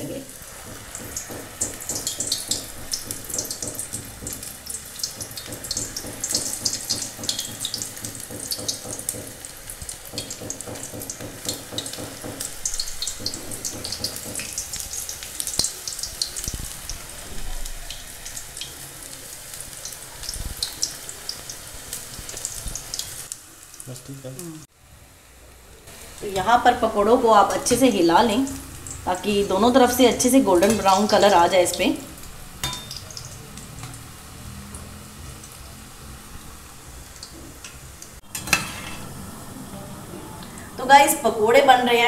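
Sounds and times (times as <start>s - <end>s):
deep-frying sizzle in oil: 0.0s - 42.0s.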